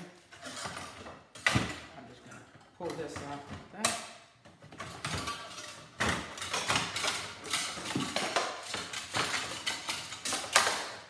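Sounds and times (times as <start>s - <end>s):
plastic parts cracking and scraping: 0.2s - 11.0s.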